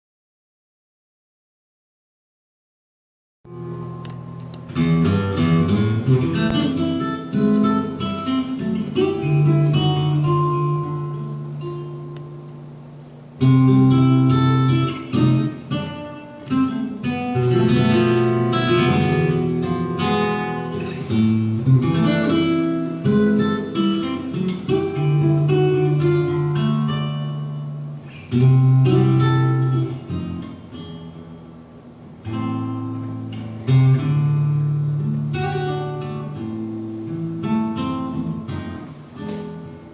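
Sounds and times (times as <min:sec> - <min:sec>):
acoustic guitar music: 0:03.5 - 0:39.9.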